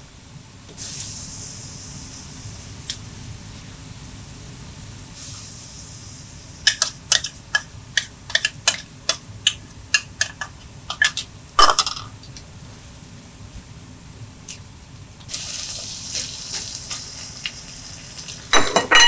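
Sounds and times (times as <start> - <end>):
faint frying hiss: 0.0 - 19.0.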